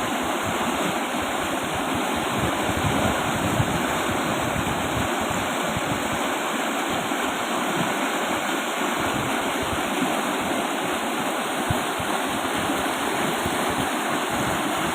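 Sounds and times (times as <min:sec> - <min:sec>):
river rushing: 0:00.0 - 0:14.9.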